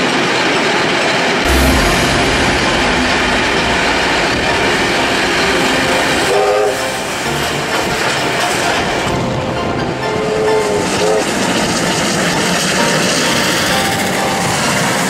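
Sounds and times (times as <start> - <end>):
passing train rushing noise: 1.4 - 15.0.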